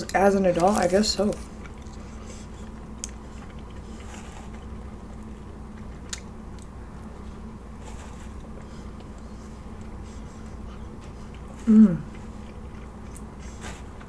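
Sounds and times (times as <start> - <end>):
chewing food close-up: 0.0 - 14.0
steady low hum: 0.0 - 14.0.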